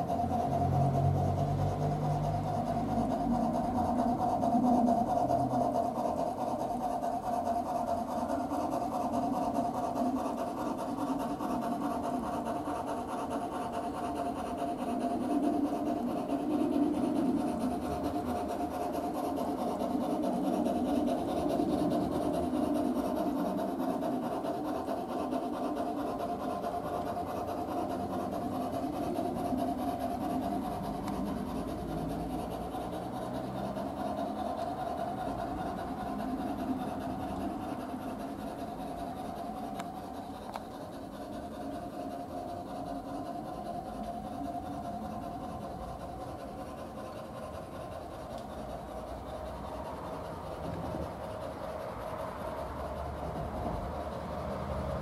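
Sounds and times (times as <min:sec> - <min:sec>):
model locomotive steam chuff: 0:00.0 - 0:55.0.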